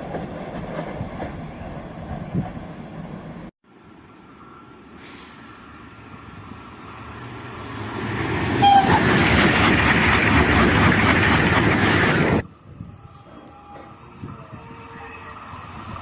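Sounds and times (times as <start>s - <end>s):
high-speed train rushing past: 0.0s - 16.0s.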